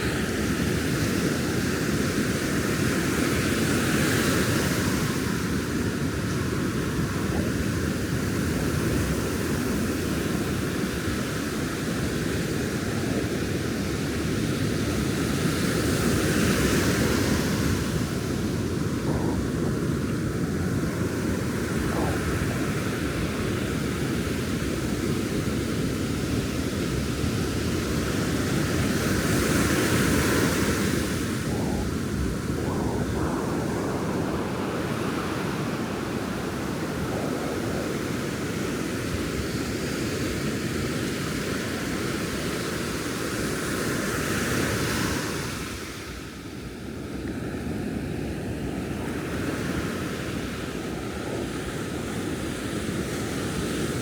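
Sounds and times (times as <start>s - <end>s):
ocean surf breaking on beach: 0.0s - 54.0s
wind: 0.0s - 54.0s.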